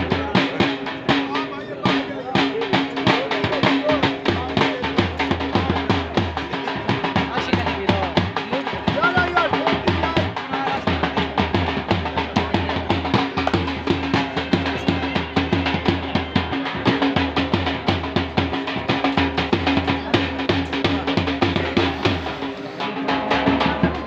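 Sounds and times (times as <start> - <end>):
music with fast drum beat: 0.0 - 24.0.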